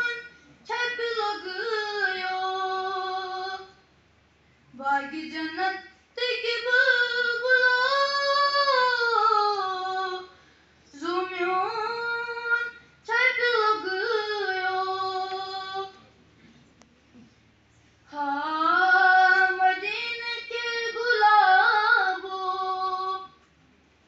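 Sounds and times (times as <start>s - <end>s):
boy singing unaccompanied: 0.0s - 3.8s, 4.8s - 10.3s, 10.9s - 16.0s, 18.1s - 23.4s.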